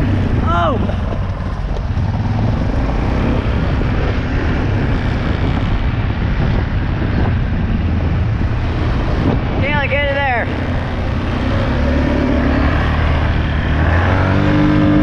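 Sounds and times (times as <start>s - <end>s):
vehicle engine drone: 0.0s - 15.0s
wind rumble on microphone: 0.0s - 15.0s.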